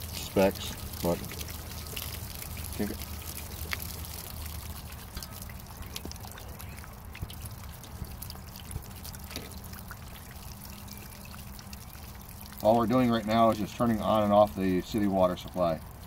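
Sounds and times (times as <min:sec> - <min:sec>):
faint drips: 0:00.0 - 0:16.0
water pouring and splashing: 0:00.0 - 0:16.0.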